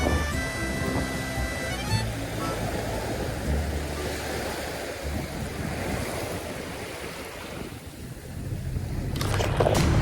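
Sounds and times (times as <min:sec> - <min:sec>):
wind buffeting microphone: 0:00.0 - 0:10.0
surf washing onto beach: 0:01.1 - 0:10.0.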